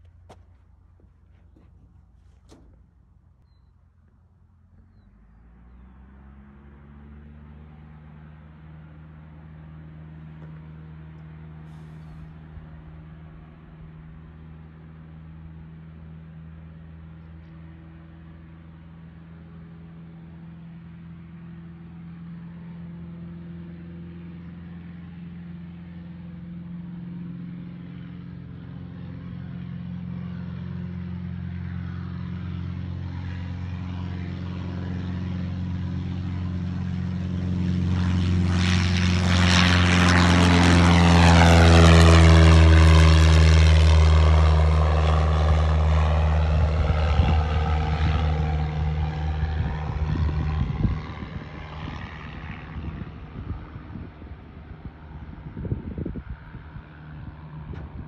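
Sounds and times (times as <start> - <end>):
propeller plane taking off: 0.0 - 58.0.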